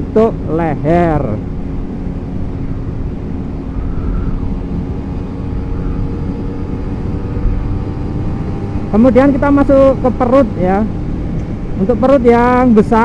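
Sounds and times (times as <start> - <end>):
motorcycle engine: 0.0 - 13.0
road rumble: 0.0 - 13.0
wind: 0.0 - 13.0.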